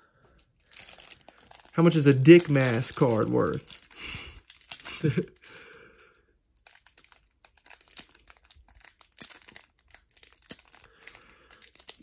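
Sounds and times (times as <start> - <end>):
foil wrapper crinkling and tearing: 0.3 - 12.0.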